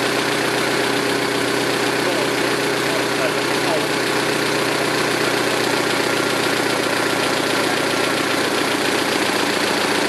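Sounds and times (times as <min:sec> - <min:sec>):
car engine idling: 0:00.0 - 0:10.0
rapid valvetrain ticking: 0:00.0 - 0:10.0.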